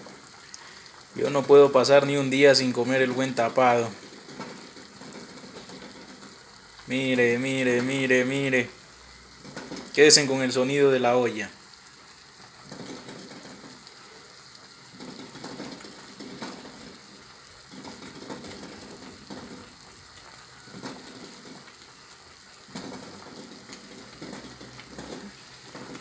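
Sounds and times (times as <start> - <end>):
pots boiling on a stove: 0.0 - 26.0.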